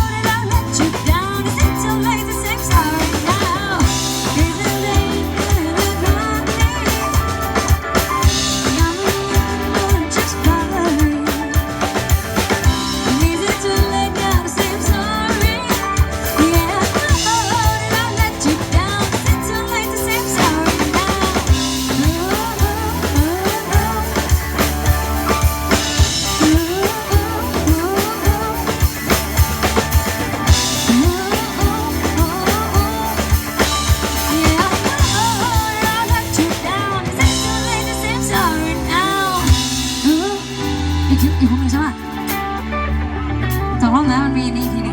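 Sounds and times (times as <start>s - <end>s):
person singing: 0.0s - 11.8s, 12.7s - 42.0s
drum beats: 0.0s - 43.6s
live rock band playing: 0.0s - 44.9s.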